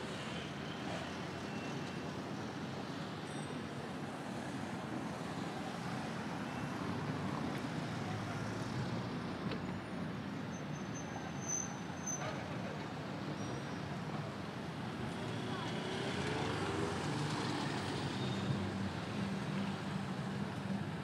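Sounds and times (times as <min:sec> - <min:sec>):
road traffic rumble and hiss: 0:00.0 - 0:21.0.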